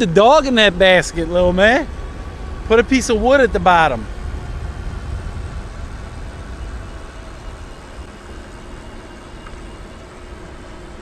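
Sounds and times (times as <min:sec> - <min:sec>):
faint hum: 0:00.0 - 0:11.0
vehicle road rumble: 0:00.0 - 0:11.0.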